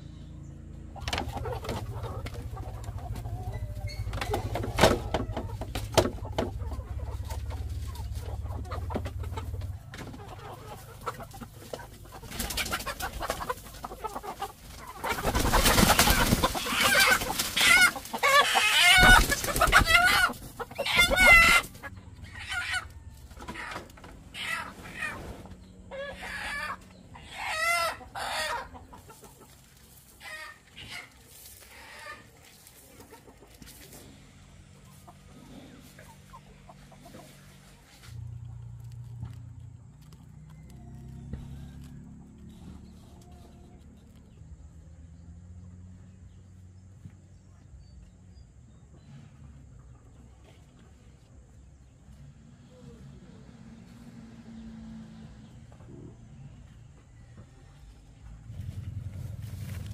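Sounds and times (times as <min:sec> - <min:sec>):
chickens clucking: 0:00.0 - 0:59.9
chickens squawking and crowing: 0:00.0 - 0:59.9.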